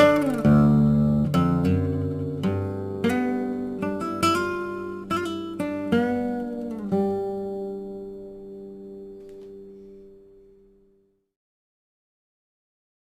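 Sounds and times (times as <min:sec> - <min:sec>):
acoustic guitar playing: 0:00.0 - 0:11.1.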